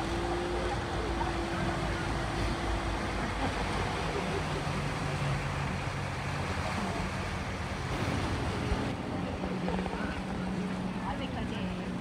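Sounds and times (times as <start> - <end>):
low engine hum: 0.0 - 12.0
turbulent river water washing: 0.0 - 12.0.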